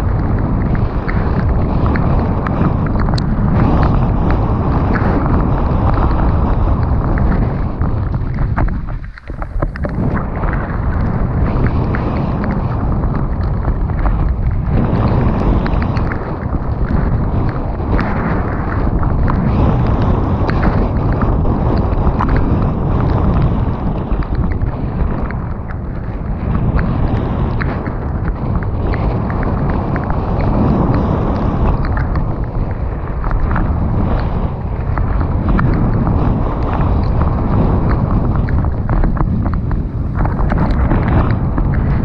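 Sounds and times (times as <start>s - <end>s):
bike tyre and trail noise: 0.0s - 42.0s
wind on microphone: 0.0s - 42.0s.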